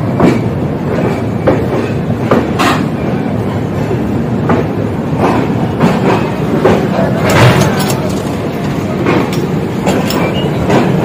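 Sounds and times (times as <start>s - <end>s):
train rumble: 0.0s - 11.0s
train wheels clacking over joints: 0.0s - 11.0s.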